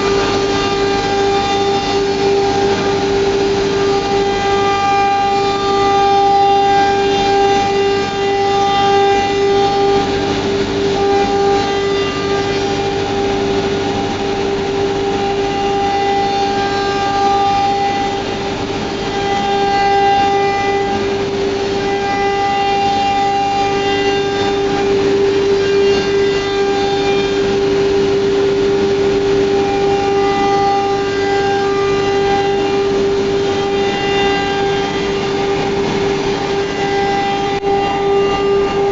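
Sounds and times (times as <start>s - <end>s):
machining noise: 0.0s - 38.9s
router spindle whining: 0.0s - 38.9s.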